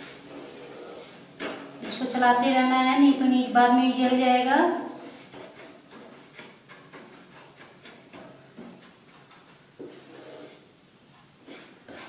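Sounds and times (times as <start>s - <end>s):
plastic spatula scraping a pan: 0.0s - 12.0s.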